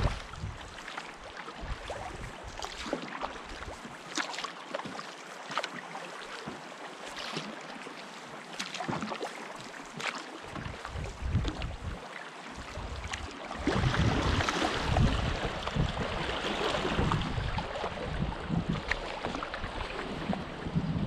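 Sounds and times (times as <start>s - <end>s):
water splashing against canoe hull: 0.0s - 21.0s.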